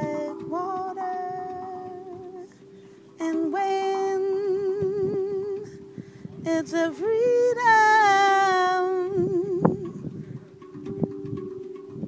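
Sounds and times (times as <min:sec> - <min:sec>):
woman singing wordless notes: 0:00.0 - 0:10.7.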